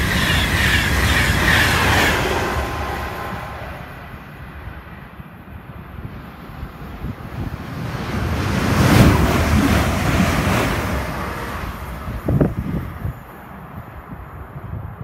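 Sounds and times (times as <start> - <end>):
electric train passing at speed: 0.0 - 15.0
wind buffeting microphone: 0.0 - 15.0.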